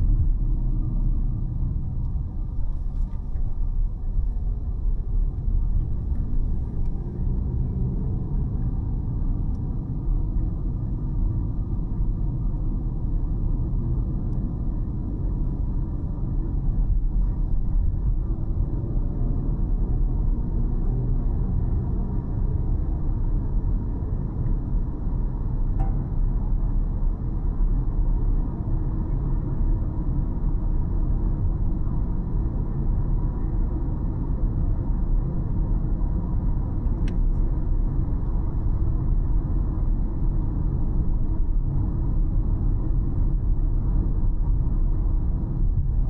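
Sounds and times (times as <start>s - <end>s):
car road rumble: 0.0s - 46.0s.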